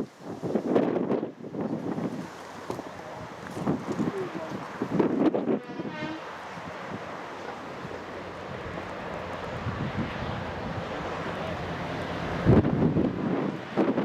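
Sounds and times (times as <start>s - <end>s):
wind buffeting microphone: 0.0s - 14.0s
diesel locomotive engine rumble: 0.8s - 14.0s.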